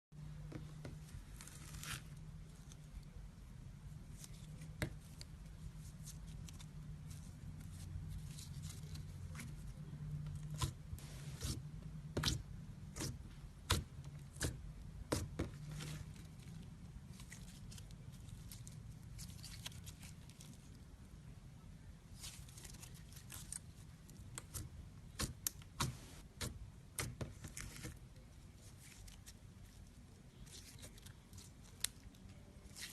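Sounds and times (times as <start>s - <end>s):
low steady hum: 0.2s - 32.9s.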